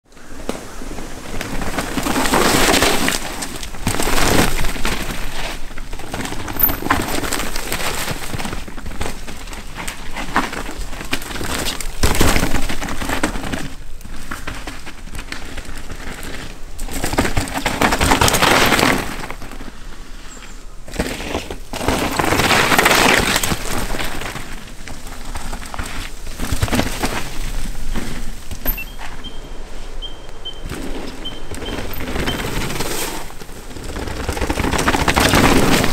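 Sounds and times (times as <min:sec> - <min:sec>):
bike tyres rolling over dirt: 0:00.1 - 0:35.9
bike rattling and clicking: 0:00.4 - 0:20.0, 0:20.9 - 0:35.9.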